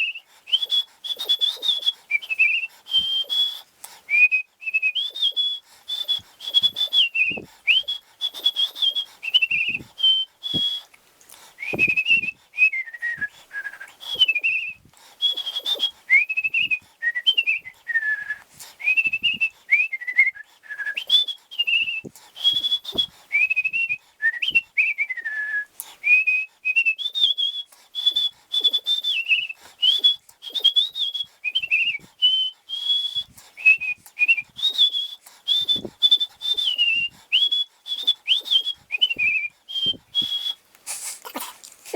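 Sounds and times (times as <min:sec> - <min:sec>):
person whistling a tune: 0:00.0 - 0:41.4.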